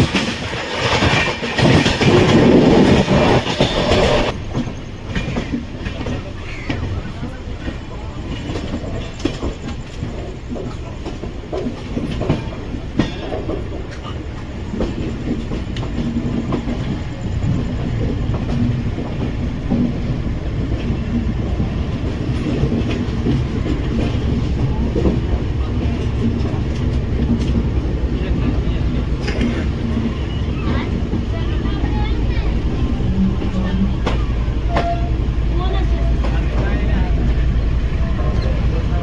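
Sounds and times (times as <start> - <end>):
train rumbling on track: 0.0 - 39.0
wheels clattering over rail joints: 0.0 - 39.0.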